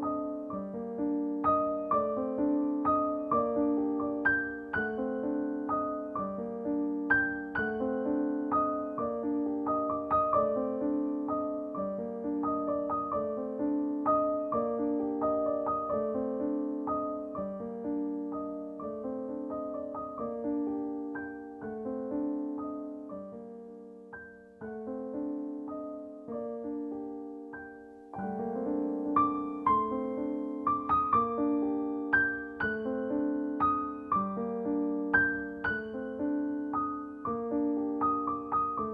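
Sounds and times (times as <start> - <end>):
gentle piano piece: 0.0 - 38.9.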